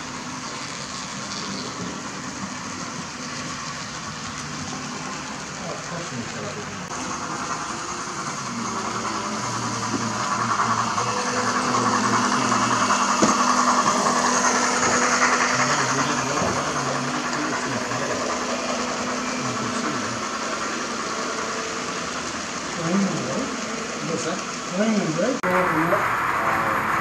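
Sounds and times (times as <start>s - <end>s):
model trains rolling on track: 0.0s - 27.0s.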